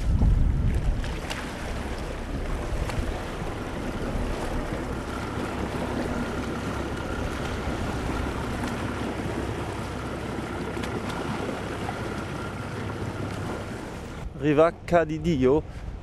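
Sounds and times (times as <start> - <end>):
boat engine: 0.0 - 16.0
wind rumble on microphone: 0.0 - 16.0.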